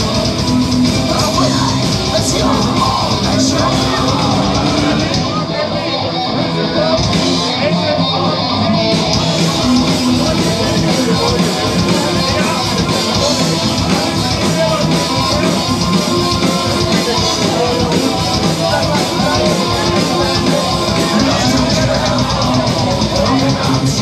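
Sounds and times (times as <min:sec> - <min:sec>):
live rock band playing: 0:00.0 - 0:24.0
person singing into microphone: 0:00.2 - 0:24.0.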